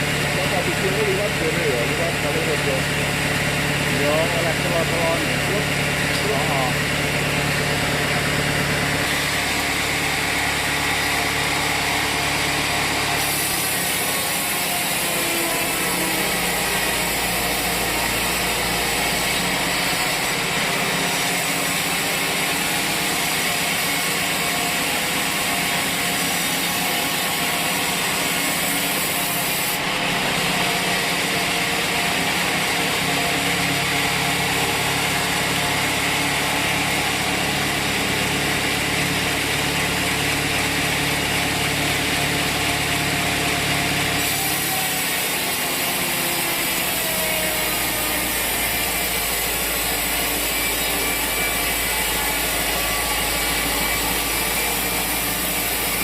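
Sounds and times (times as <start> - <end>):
mill engine running: 0.0 - 56.0
saw cutting through log: 0.0 - 56.0.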